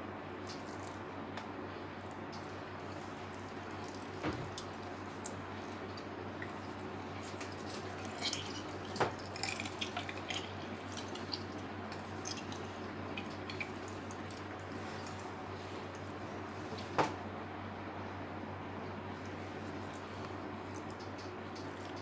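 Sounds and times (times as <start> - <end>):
steady low hum: 0.0 - 22.0
small wet smacks and clicks: 0.4 - 15.3, 19.2 - 22.0.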